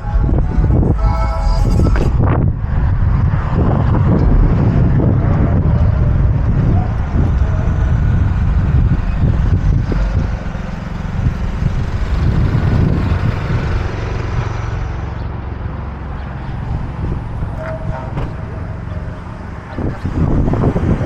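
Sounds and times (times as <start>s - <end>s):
street noise rumble: 0.0s - 21.0s
vehicle passing: 0.0s - 21.0s.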